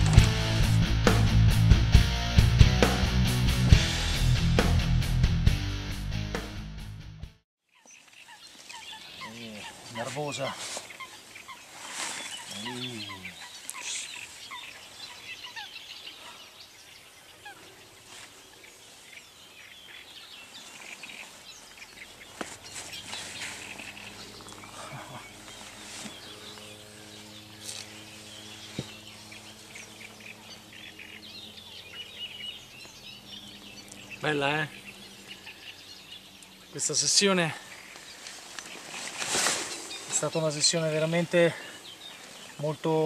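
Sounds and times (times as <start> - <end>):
birds chirping: 7.6 - 43.0.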